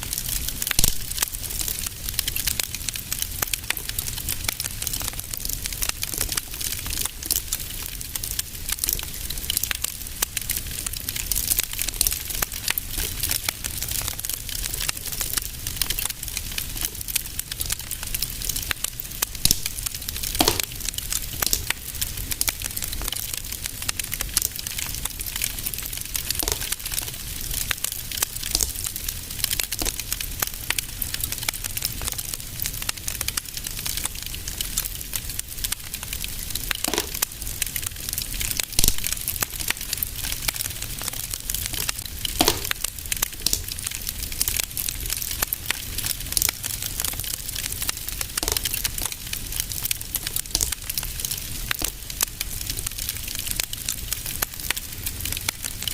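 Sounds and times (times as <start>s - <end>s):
loud fire pops: 0.0s - 55.8s
fire crackling: 0.0s - 55.9s
low rumble of fire: 0.0s - 55.9s.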